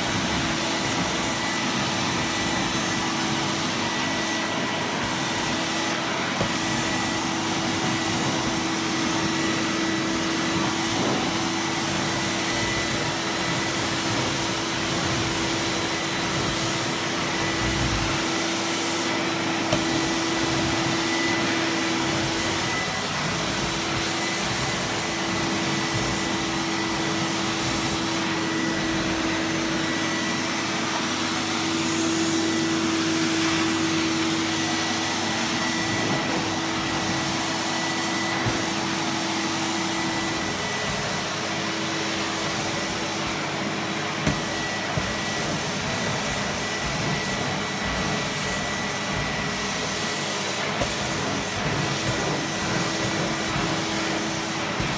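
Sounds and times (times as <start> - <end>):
washing vacuum cleaner running: 0.0 - 54.9.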